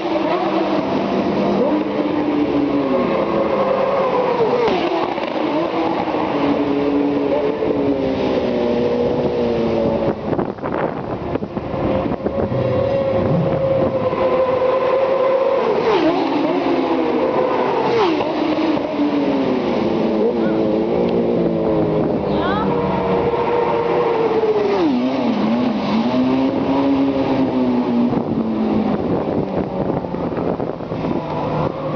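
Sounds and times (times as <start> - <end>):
racing motorcycles at high revs: 0.0 - 31.9.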